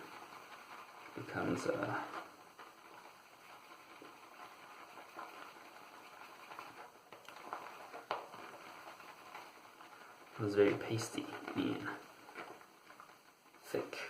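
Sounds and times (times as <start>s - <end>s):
shaving brush squishing soap: 0.0s - 14.0s.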